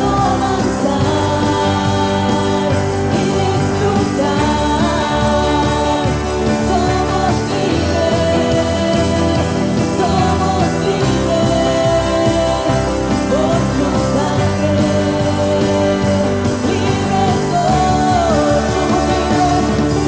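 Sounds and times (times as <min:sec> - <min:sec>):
acoustic and electric guitars: 0:00.0 - 0:20.0
drums: 0:00.0 - 0:20.0
voices singing: 0:00.0 - 0:20.0.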